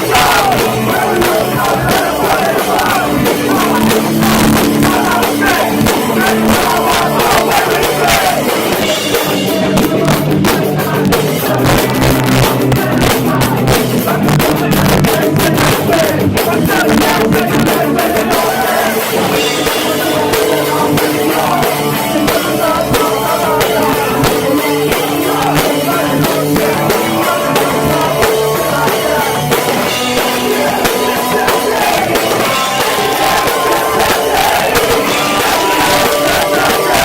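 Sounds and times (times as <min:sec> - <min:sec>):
drum kit: 0:00.0 - 0:37.0
electric guitar: 0:00.0 - 0:37.0
live hardcore band playing: 0:00.0 - 0:37.0
vocals: 0:00.0 - 0:37.0.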